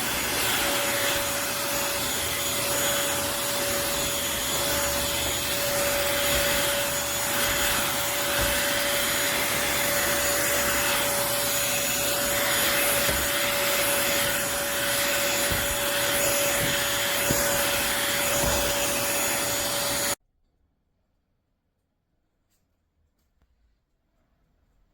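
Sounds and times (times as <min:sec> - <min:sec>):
vacuum cleaner motor running: 0:00.0 - 0:20.2.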